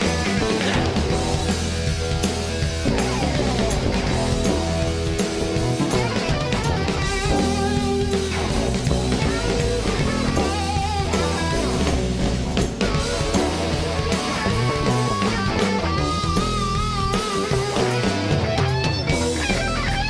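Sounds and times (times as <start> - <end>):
rock band playing blues: 0.0 - 20.0
wavering electric guitar lead: 0.0 - 20.0.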